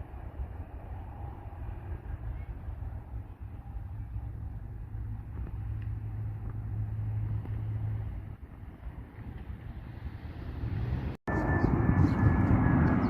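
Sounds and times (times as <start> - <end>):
distant jet engines rumble: 0.0 - 13.0.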